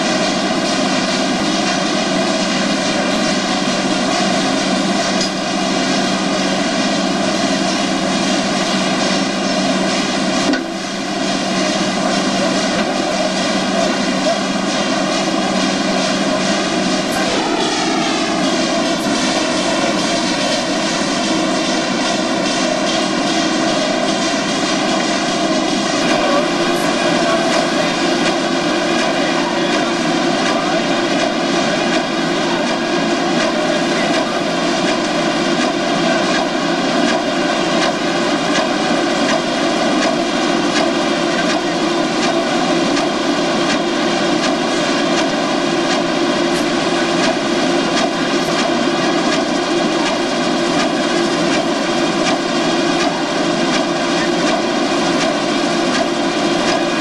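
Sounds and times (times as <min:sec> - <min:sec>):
box-making machine droning: 0:00.0 - 0:57.0.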